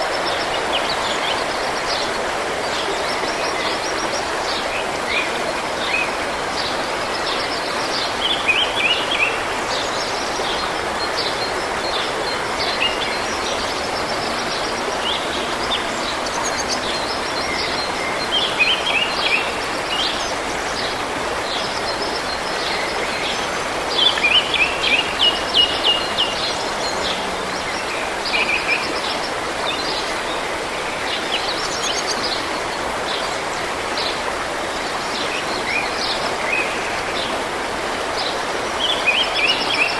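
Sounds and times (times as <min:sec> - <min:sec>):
songbirds chirping and trilling: 0:00.0 - 0:39.9
stream running: 0:00.0 - 0:39.9.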